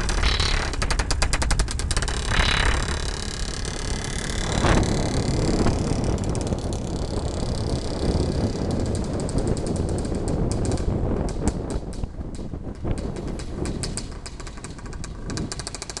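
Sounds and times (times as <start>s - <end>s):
exhaust pops: 0.0s - 16.0s
road and wind rumble: 0.0s - 16.0s
two-stroke motorcycle running: 0.0s - 16.0s.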